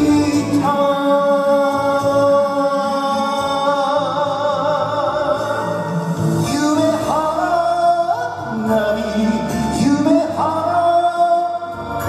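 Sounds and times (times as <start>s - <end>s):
backing music: 0.0s - 12.0s.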